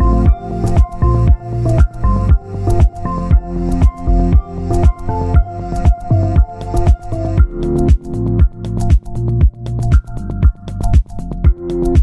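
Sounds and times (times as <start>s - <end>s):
deep bass thumps: 0.0s - 12.0s.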